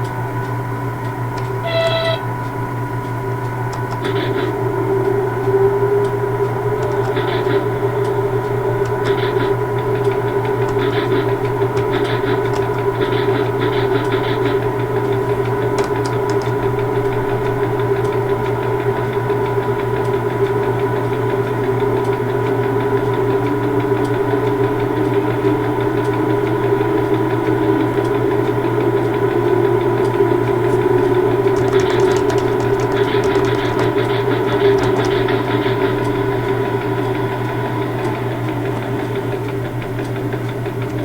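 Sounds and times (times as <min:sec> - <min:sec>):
railway locomotive drone: 0:00.0 - 0:41.0.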